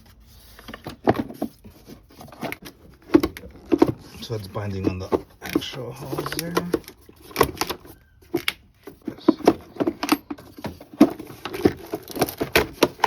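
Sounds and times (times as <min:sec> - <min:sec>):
clicks and knocks on plastic: 0:02.3 - 0:13.0.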